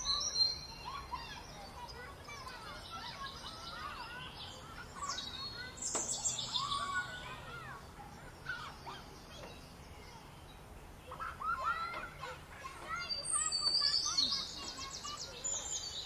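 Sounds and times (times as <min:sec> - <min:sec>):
songbirds chirping and singing: 0:00.0 - 0:16.0.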